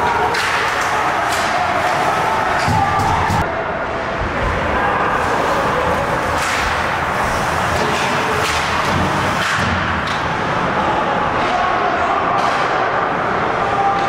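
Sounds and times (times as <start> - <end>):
arena crowd noise: 0.0 - 14.0.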